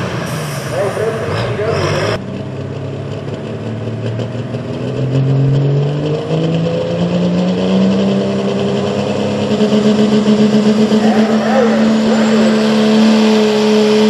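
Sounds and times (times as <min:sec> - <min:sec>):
diesel engine revving under load: 0:00.0 - 0:14.0.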